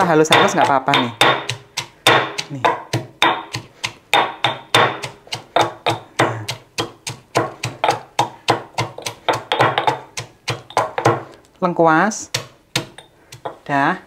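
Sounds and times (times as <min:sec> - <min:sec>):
pestle pounding in a mortar: 0:00.0 - 0:11.4, 0:12.2 - 0:13.8.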